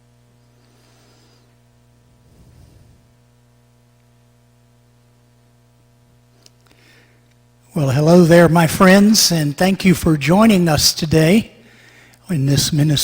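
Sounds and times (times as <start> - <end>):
faint electrical mains hum: 0.0 - 13.0.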